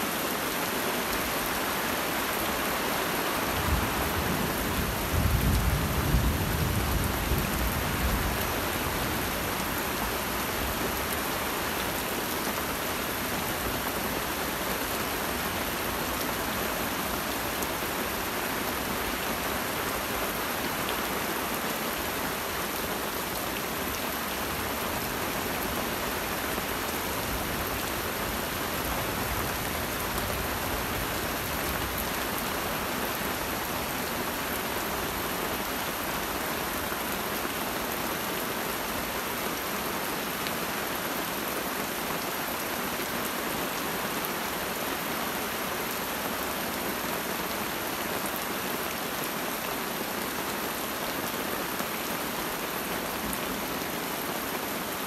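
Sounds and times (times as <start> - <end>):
rain falling in forest: 0.0 - 55.0.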